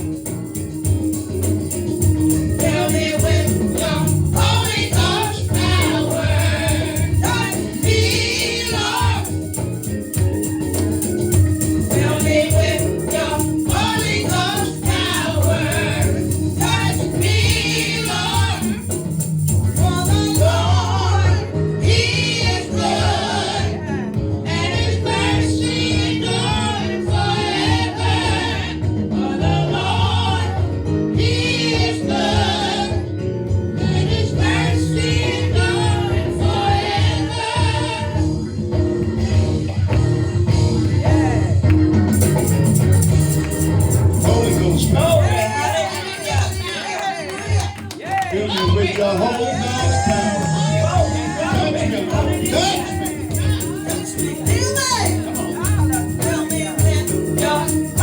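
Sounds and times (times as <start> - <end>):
band accompaniment: 0.0 - 47.8, 48.4 - 58.0
choir singing gospel: 0.0 - 58.0.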